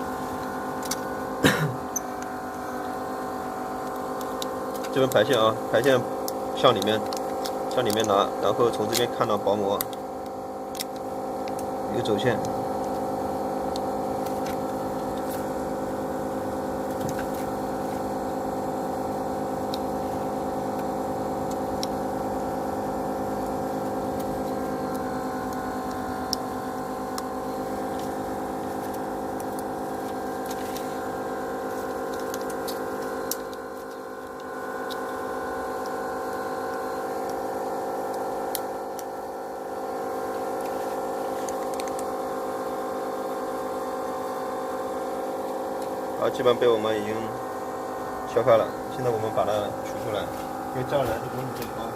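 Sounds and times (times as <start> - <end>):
workbench machine humming: 0.0 - 51.9.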